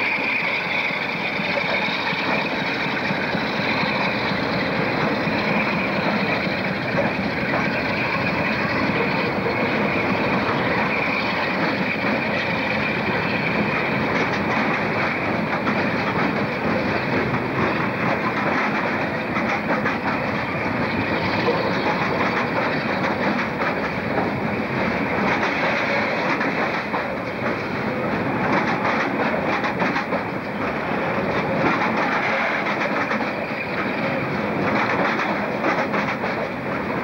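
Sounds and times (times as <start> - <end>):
train wheels rumbling on rail: 0.0 - 37.0
wheels clattering over rail joints: 0.4 - 37.0.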